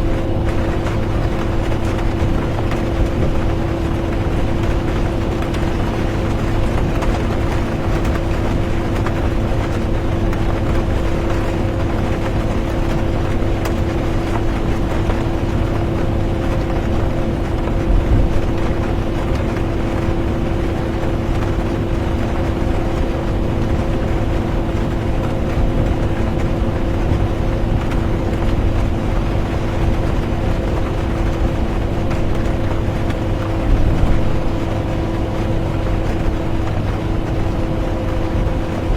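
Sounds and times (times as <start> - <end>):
bus engine and road rumble: 0.0 - 38.9
constant hum: 0.0 - 38.9.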